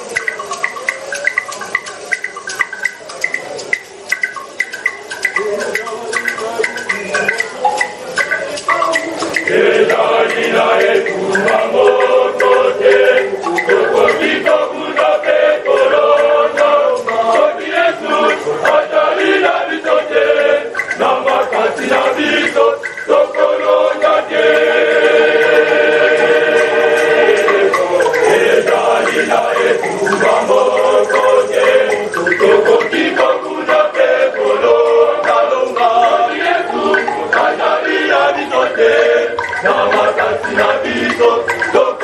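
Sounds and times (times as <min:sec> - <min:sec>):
male choir singing: 0:05.3 - 0:42.0.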